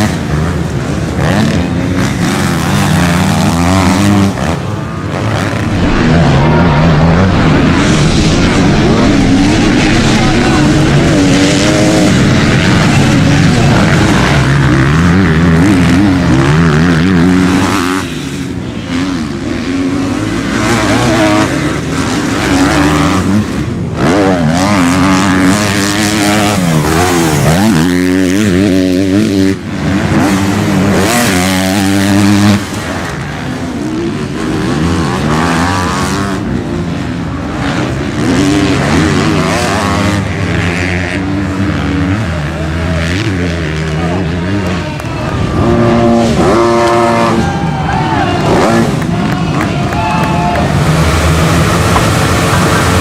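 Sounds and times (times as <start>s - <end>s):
motocross bike engines revving: 0.0s - 53.0s.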